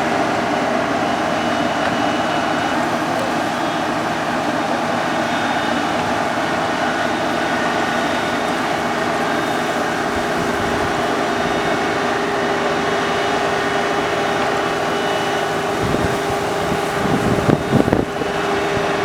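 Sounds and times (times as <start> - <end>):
combine harvester engine droning: 0.0 - 19.0.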